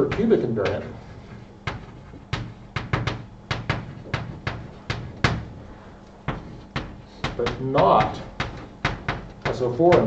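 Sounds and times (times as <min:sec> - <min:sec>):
chalk tapping on blackboard: 0:00.0 - 0:10.0.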